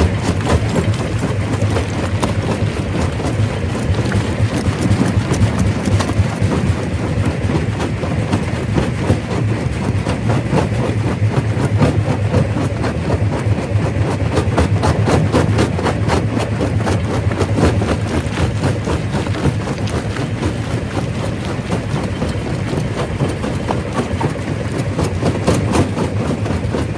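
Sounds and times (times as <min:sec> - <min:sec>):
rock cracking and knocking: 0:00.0 - 0:09.2, 0:14.4 - 0:26.9
rock crusher rumbling: 0:00.0 - 0:26.9.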